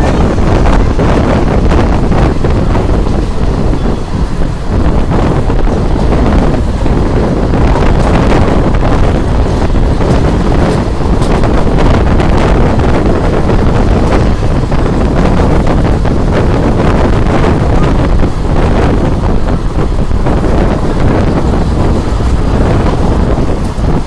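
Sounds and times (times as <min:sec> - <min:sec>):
passenger train rumble: 0:00.0 - 0:24.0
wind on microphone: 0:00.0 - 0:24.0.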